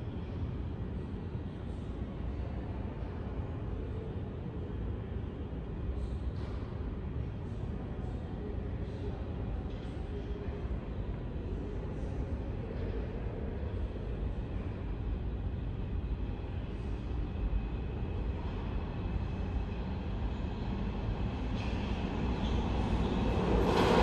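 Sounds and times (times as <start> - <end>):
subway train rumble: 0.0 - 24.0.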